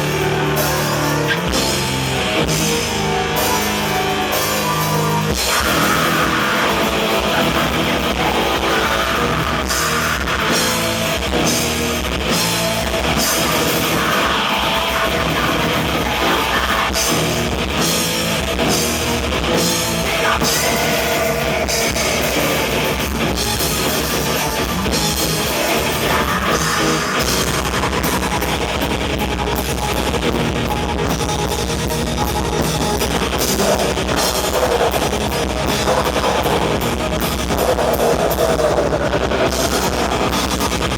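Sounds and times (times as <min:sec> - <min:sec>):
distorted guitar and bass: 0:00.0 - 0:40.9
fast dense drumming: 0:00.0 - 0:40.9
keyboards: 0:00.0 - 0:40.9.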